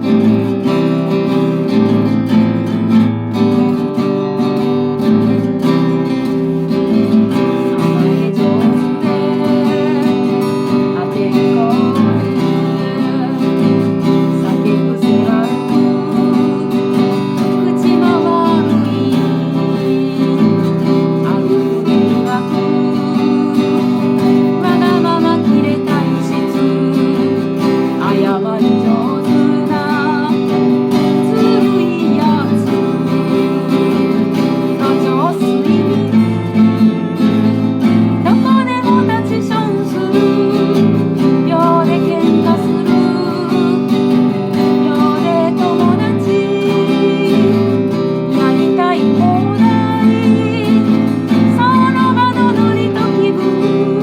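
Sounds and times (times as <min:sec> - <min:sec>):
person singing: 0:00.0 - 0:54.0
strummed acoustic guitar: 0:00.0 - 0:54.0.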